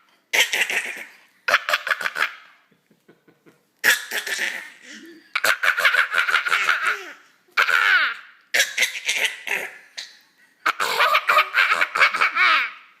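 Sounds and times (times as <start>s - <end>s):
baby laughing: 0.3s - 2.7s, 3.8s - 13.0s.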